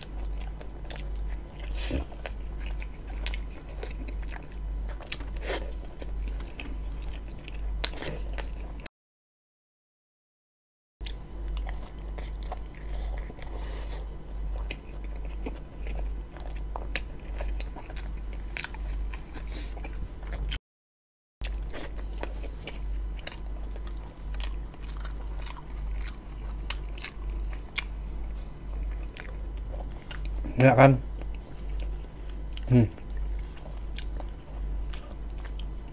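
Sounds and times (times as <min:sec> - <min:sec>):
chewing and biting bread: 0:00.0 - 0:08.9, 0:11.0 - 0:20.6, 0:21.4 - 0:35.9.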